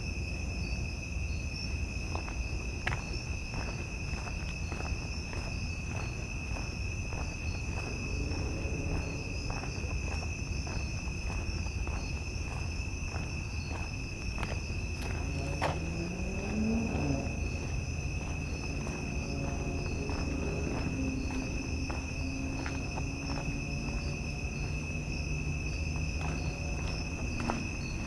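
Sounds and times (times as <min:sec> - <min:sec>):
night insects trilling: 0:00.0 - 0:28.0
footsteps: 0:02.1 - 0:28.0.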